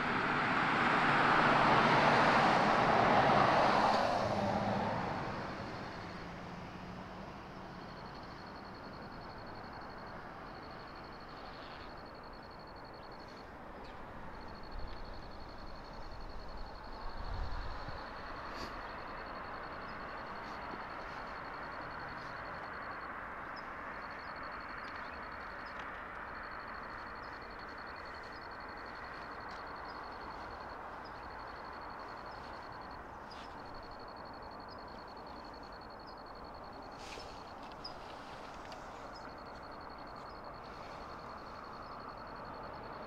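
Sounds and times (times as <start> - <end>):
distant road traffic hum: 0.0 - 43.0.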